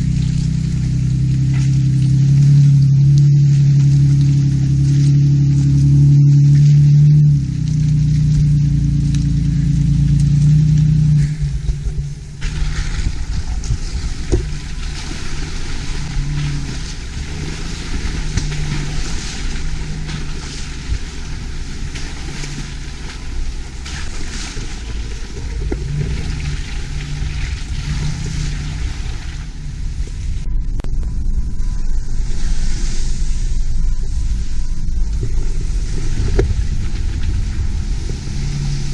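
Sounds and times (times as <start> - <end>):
rushing wind or tyre noise: 0.0 - 38.9
vehicle engine humming: 0.0 - 38.9.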